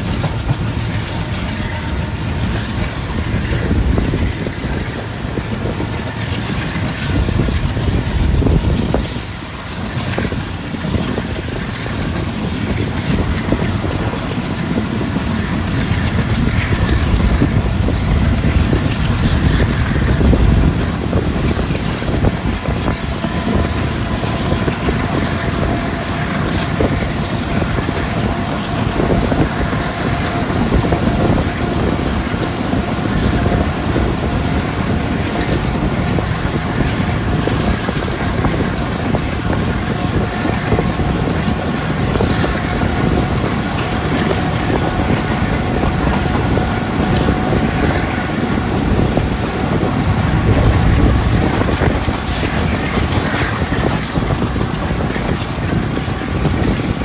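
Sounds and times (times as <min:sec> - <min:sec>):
train wheels rumbling on rails: 0:00.0 - 0:57.0
wind rushing on microphone: 0:00.0 - 0:57.0.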